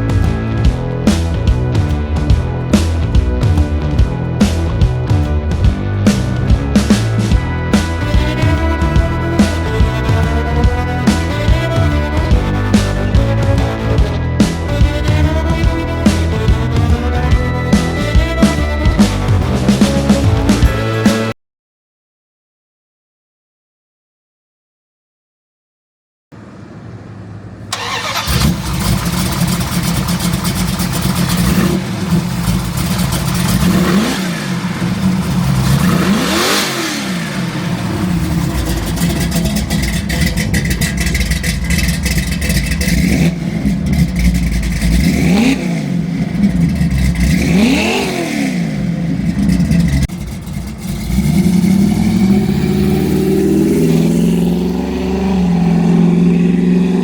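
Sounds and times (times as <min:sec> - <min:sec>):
car engine starting and idling: 0:00.0 - 0:21.2, 0:26.4 - 0:57.0
car engine revving: 0:00.0 - 0:21.3, 0:26.4 - 0:57.0.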